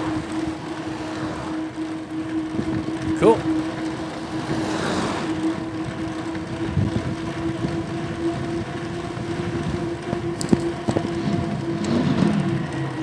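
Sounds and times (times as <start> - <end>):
electric motor whining: 0.0 - 13.0
wind and road noise: 0.0 - 13.0.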